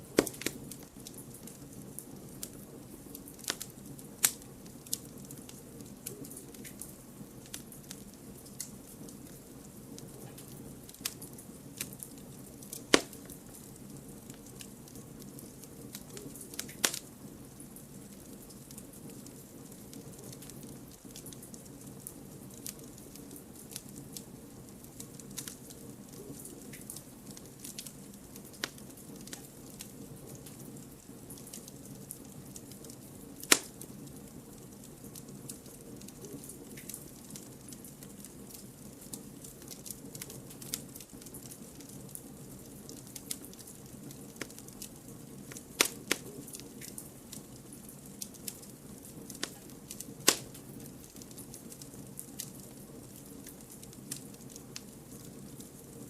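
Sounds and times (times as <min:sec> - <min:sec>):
firewood crackling and popping: 0:00.0 - 0:56.0
flames hissing and rumbling: 0:00.0 - 0:56.0.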